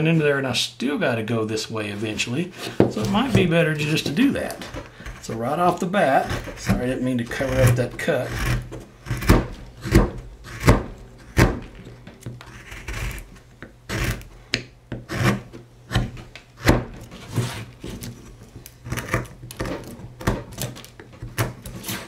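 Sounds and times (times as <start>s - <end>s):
knife scraping cuts into wood: 2.0s - 22.0s.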